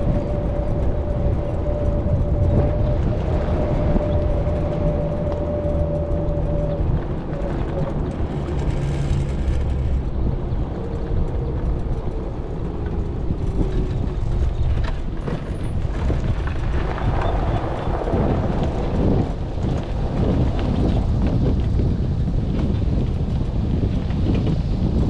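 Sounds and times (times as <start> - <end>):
road noise: 0.0 - 25.0
wind rumble on microphone: 0.0 - 25.0.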